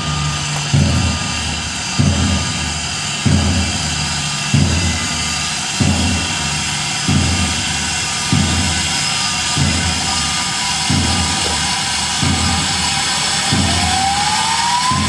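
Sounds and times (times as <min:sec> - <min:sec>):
steam air pump strokes: 0:00.0 - 0:15.0
steam hissing: 0:00.0 - 0:15.0.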